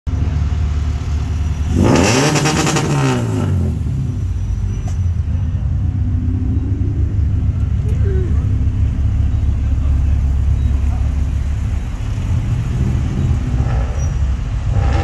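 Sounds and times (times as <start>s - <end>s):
car engine idling: 0.1s - 15.0s
car engine revving: 0.4s - 4.6s, 5.2s - 15.0s.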